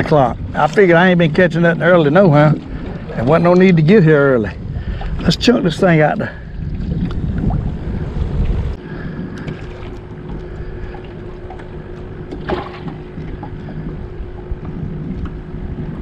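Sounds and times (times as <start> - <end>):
faint steady hum: 0.0 - 16.0
small boat engine rumble: 0.0 - 16.0
wind on microphone: 0.0 - 16.0.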